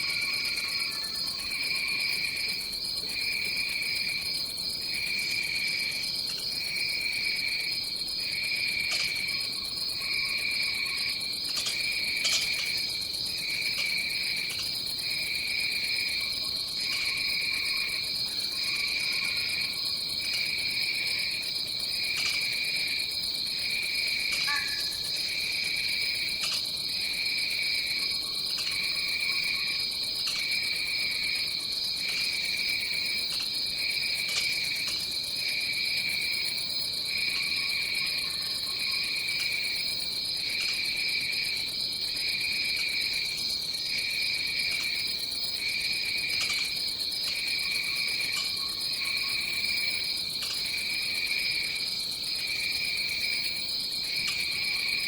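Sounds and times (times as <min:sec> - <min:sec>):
lower pulsing insect trill: 0:00.0 - 0:55.0
high-pitched insect trill: 0:06.6 - 0:55.0.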